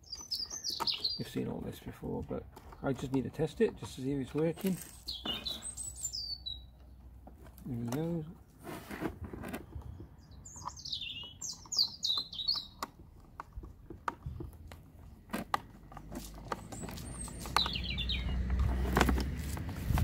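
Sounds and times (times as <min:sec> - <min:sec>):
songbird chirping: 0:00.0 - 0:08.5, 0:09.4 - 0:15.2, 0:15.8 - 0:19.4.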